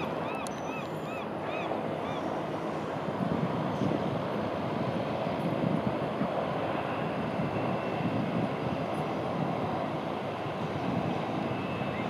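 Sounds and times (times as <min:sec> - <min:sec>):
floatplane engine and propeller: 0:00.0 - 0:12.0.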